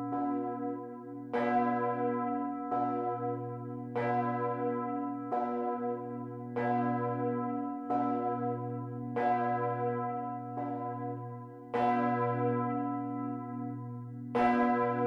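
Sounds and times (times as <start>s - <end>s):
large church bell ringing: 0.0s - 15.0s.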